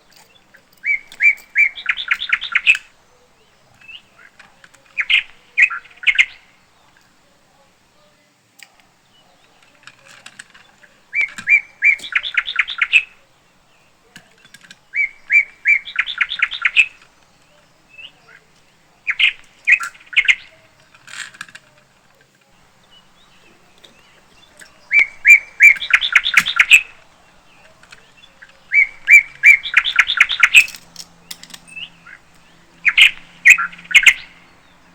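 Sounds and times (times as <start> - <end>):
bird chirping: 0.0 - 34.9.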